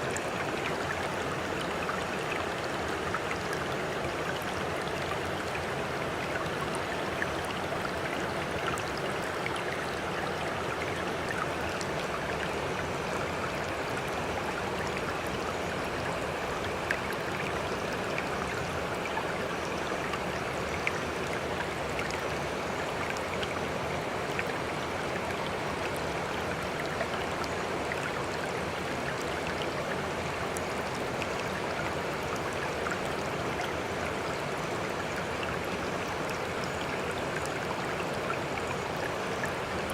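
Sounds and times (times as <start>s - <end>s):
flowing water rushing: 0.0s - 39.9s
water drips and splashes: 0.0s - 39.9s.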